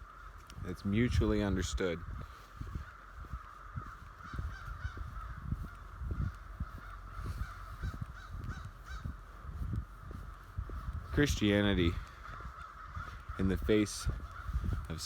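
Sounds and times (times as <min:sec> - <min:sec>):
crows cawing: 0:00.0 - 0:15.0.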